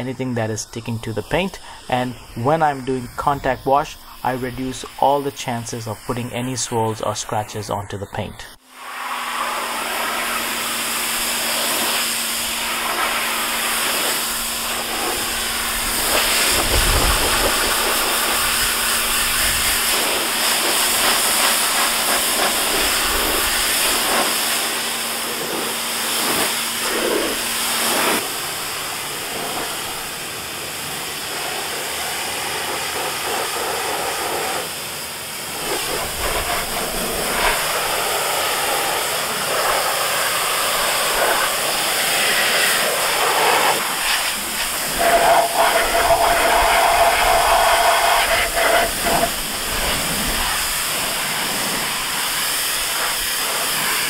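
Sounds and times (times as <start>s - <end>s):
pressure washer spraying water: 0.0s - 54.0s
steady hum: 0.0s - 54.0s.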